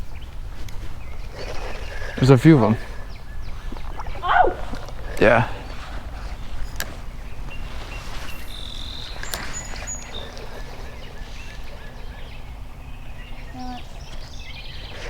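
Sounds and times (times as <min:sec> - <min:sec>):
bird chirps: 0:00.0 - 0:15.0
birds calling: 0:00.0 - 0:15.0
low creekside rumble: 0:00.0 - 0:15.0
high bird whistles: 0:02.9 - 0:15.0.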